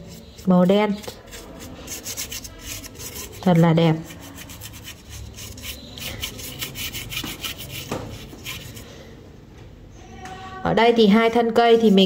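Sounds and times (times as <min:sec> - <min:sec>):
paintbrush scratching on cardboard: 0:00.0 - 0:08.9, 0:11.0 - 0:12.0.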